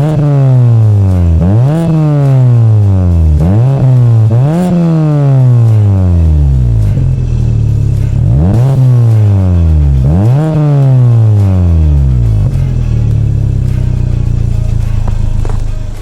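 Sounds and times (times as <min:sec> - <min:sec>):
car engine revving and idling: 0:00.0 - 0:16.0.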